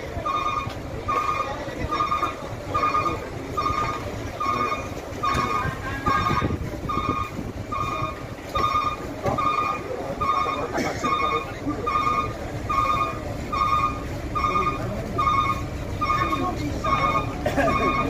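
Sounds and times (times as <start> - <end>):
truck engine running: 0.0 - 18.0
truck reversing alarm beeping: 0.0 - 18.0.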